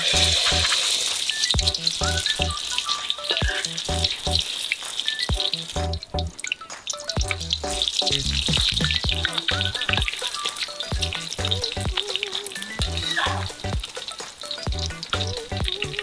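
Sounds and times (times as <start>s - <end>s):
background music with bass beat: 0.0s - 16.0s
egg sizzling in hot oil: 0.0s - 16.0s.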